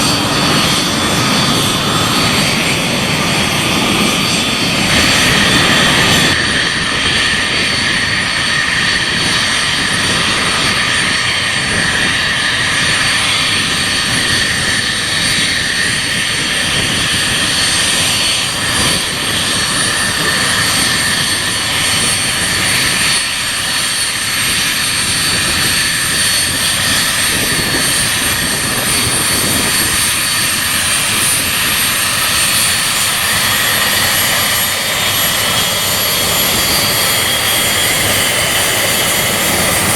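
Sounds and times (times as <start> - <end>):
jet engines with high whine: 0.0 - 39.9.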